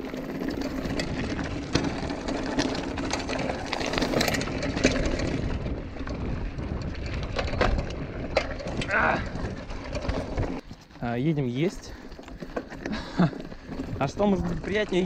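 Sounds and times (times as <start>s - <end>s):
bike clicking and rattling: 0.0s - 15.0s
bike tyres crunching on gravel: 0.0s - 15.0s.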